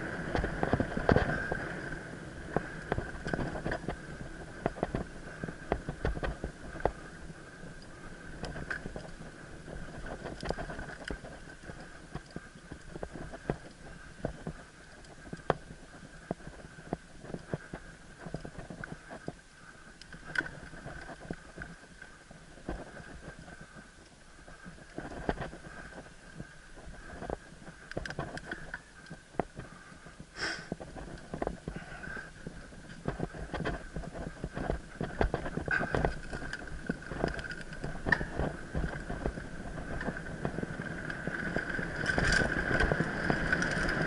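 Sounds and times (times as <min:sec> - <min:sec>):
bike clicking and rattling: 0:00.0 - 0:44.0
bike tyres rumbling on dirt: 0:00.0 - 0:44.0.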